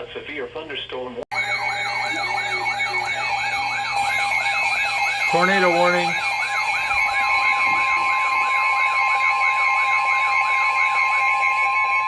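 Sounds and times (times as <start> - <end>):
electronic siren sweeping: 1.3 - 12.0
steady alert tones: 1.3 - 12.0.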